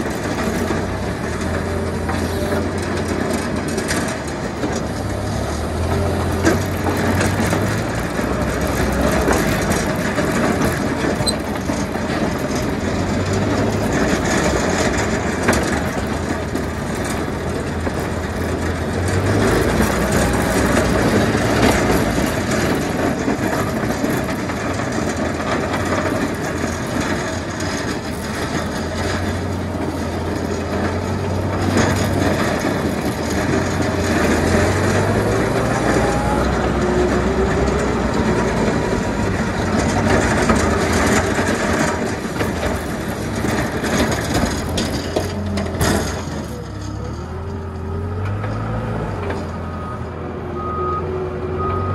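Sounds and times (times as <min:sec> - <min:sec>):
snow plow blade scraping ice: 0:00.0 - 0:49.7
tractor engine under load: 0:00.0 - 0:51.9.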